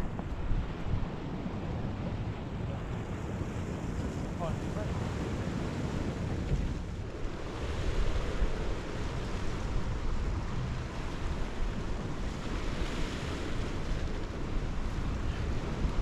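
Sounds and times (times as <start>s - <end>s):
waves washing onto shore: 0.0s - 16.0s
wind blowing across microphone: 0.0s - 16.0s.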